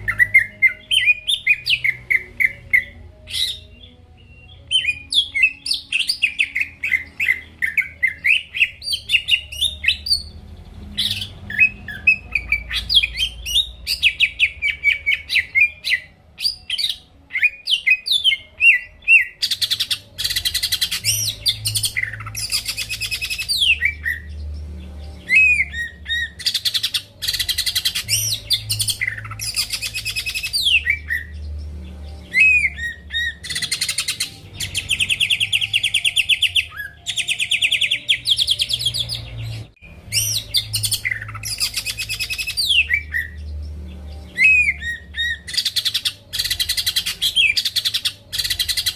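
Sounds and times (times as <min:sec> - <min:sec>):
leafbird singing: 0:00.0 - 0:48.9.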